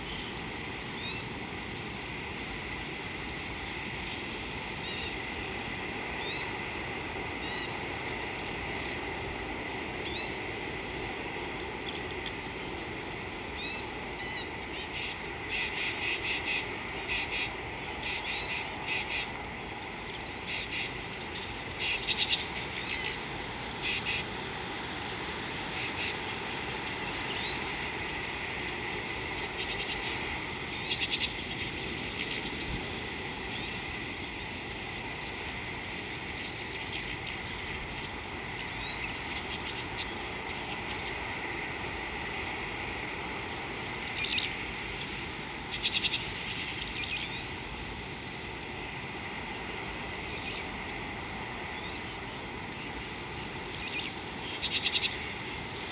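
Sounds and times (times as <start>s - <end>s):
insect drone: 0.0s - 55.9s.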